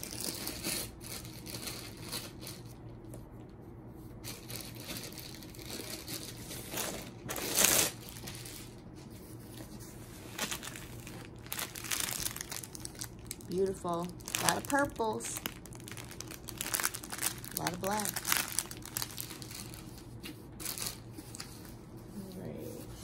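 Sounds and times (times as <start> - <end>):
plastic packaging crinkling: 0.0 - 2.7, 4.3 - 8.8, 10.2 - 21.5.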